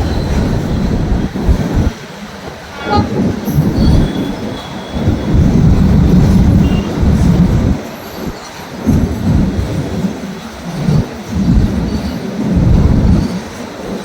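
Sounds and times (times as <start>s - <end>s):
train passing on rails: 0.0s - 14.0s.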